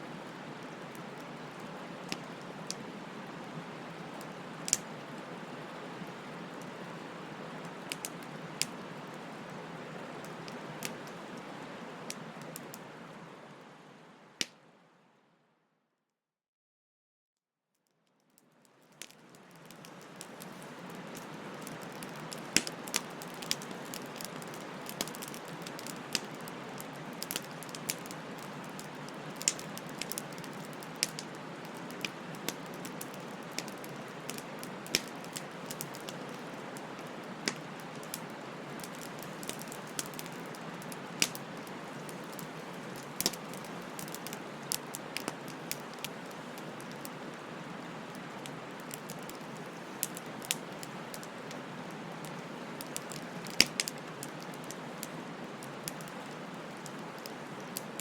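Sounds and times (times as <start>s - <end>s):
wood fire crackling: 0.0s - 14.6s, 18.3s - 58.0s.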